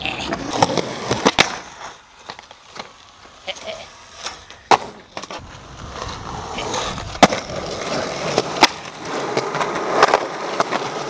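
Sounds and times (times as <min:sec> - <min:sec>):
skateboard clacks: 0:00.0 - 0:11.0
skateboard wheels rolling on pavement: 0:00.0 - 0:11.0.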